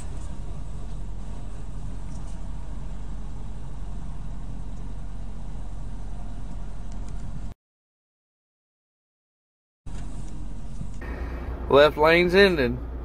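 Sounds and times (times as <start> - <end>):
truck engine rumble: 0.0 - 7.6, 9.9 - 13.0.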